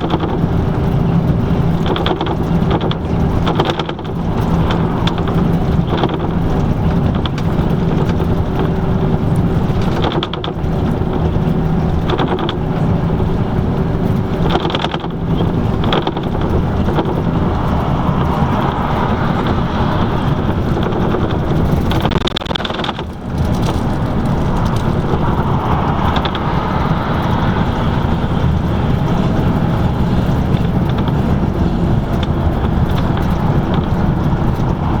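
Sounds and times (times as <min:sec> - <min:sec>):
bus diesel engine hum: 0:00.0 - 0:35.0
rattles: 0:00.0 - 0:35.0
road and tyre noise: 0:00.0 - 0:35.0.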